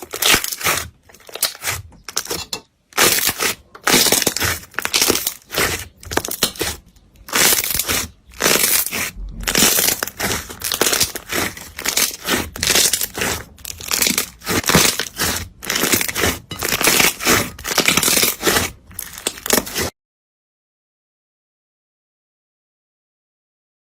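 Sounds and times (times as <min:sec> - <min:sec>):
crunchy slime being squeezed: 0:00.0 - 0:19.9.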